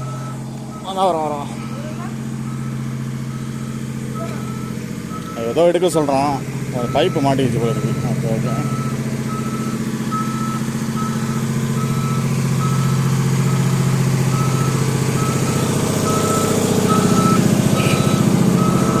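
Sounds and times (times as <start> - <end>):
motion alarm beeping: 0.0 - 6.2, 6.8 - 19.0
engine running: 0.0 - 19.0.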